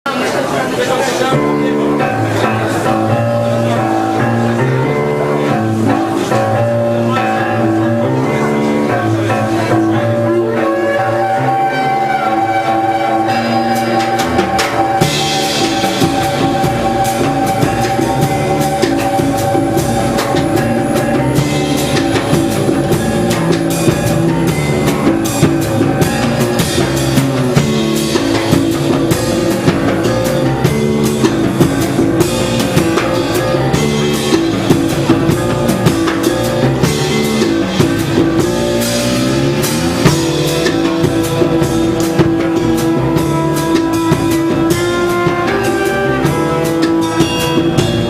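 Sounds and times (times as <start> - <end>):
busy drum kit: 0.0 - 48.0
jazz band playing live: 0.1 - 48.0.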